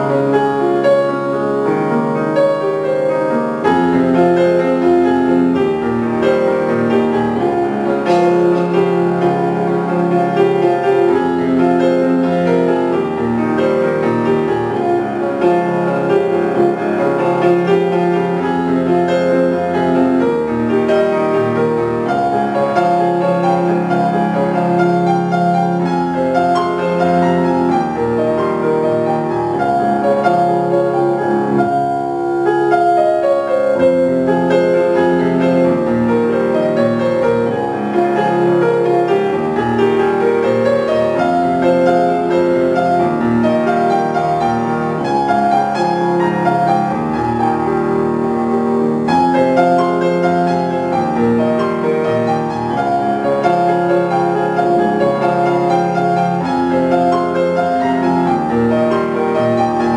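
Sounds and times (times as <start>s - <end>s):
solo grand piano: 0.0s - 59.9s.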